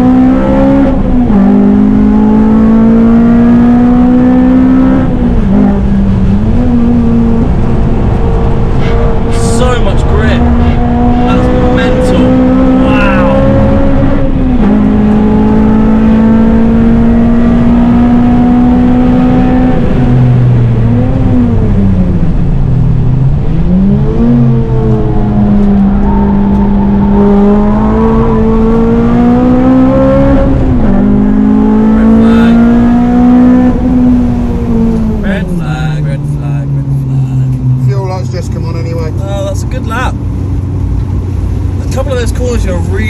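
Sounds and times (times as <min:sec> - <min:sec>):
car engine driven hard: 0:00.0 - 0:43.0.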